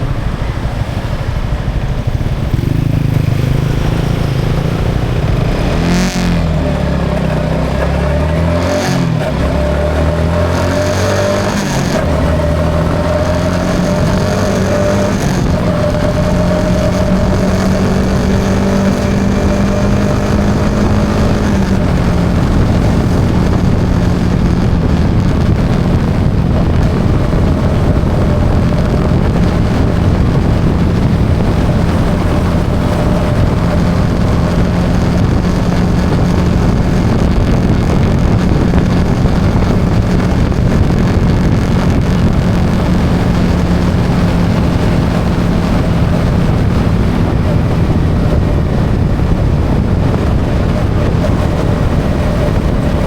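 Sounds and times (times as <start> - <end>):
motorcycle engine cruising: 0.0 - 53.0
road and wind noise: 0.0 - 53.0.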